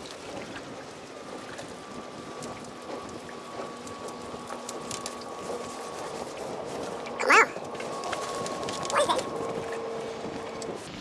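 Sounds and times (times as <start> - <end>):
fishing reel gears whirring: 0.2 - 10.8.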